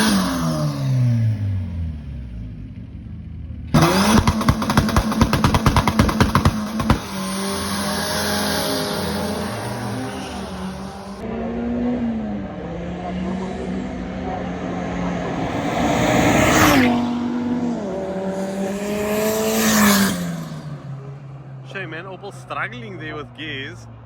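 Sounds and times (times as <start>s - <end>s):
drag racing cars at full throttle: 0.0s - 24.0s.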